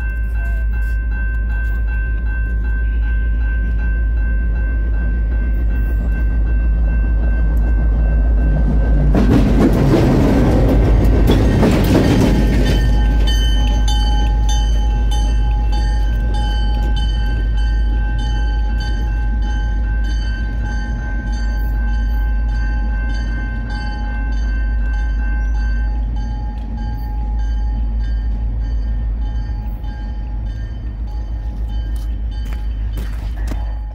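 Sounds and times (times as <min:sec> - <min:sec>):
crossing bell ringing: 0:00.0 - 0:33.9
train rumble and rail clatter: 0:00.0 - 0:33.9.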